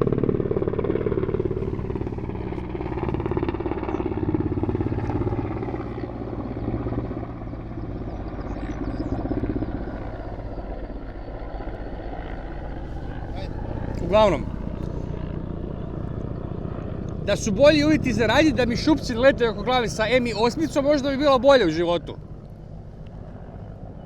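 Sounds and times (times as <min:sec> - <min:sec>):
helicopter flying low overhead: 0:00.0 - 0:24.0.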